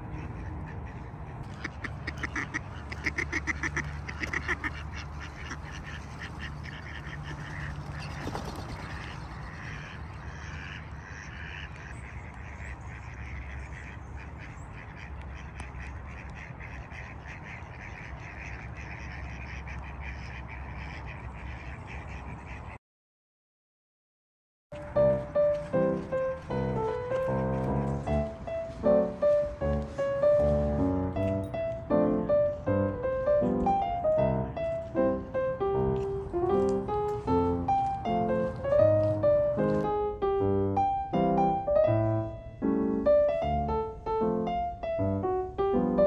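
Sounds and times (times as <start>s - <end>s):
ducks quacking: 0.0s - 22.8s, 24.8s - 43.7s.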